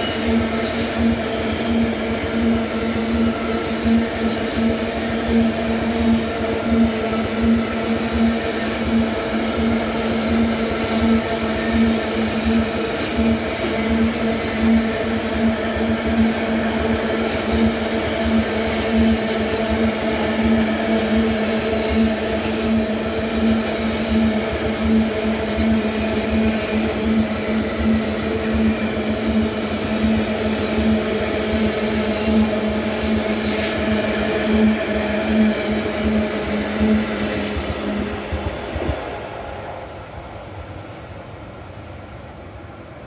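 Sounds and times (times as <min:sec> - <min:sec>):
train wheels rolling on rails: 0:00.0 - 0:43.0.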